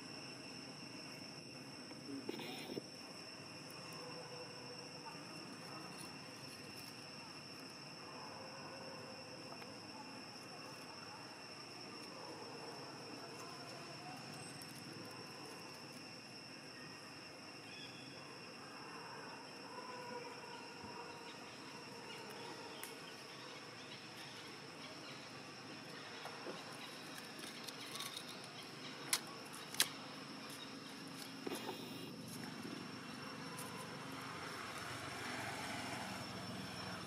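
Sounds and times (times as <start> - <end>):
high insect drone: 0.0 - 37.0.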